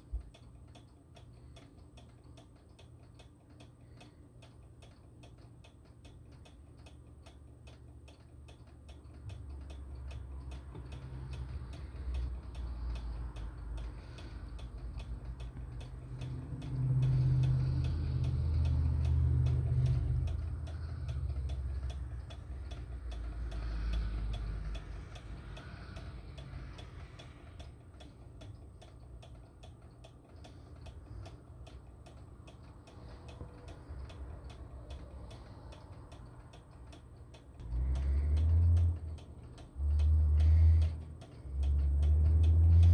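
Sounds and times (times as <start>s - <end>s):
mechanical ticking: 0.0s - 42.9s.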